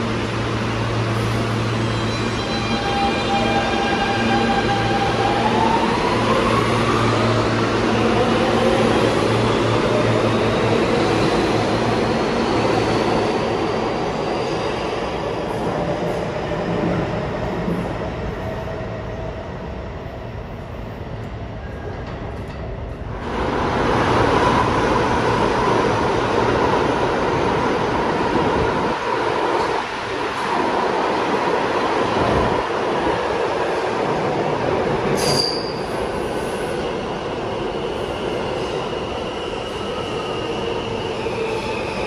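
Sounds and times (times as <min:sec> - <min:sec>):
second train whining: 0:00.0 - 0:42.0
subway train pulling out: 0:00.0 - 0:42.0.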